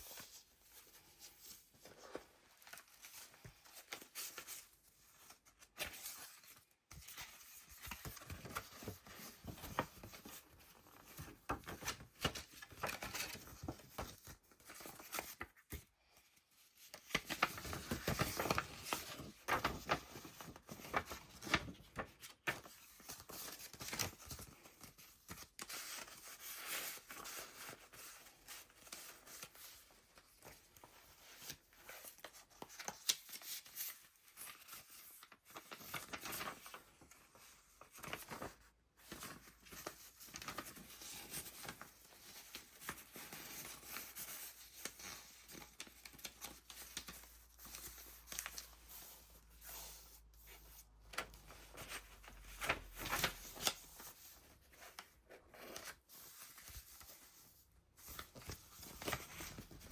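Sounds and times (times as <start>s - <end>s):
paper pages rustling: 0.0s - 15.9s, 16.5s - 59.9s.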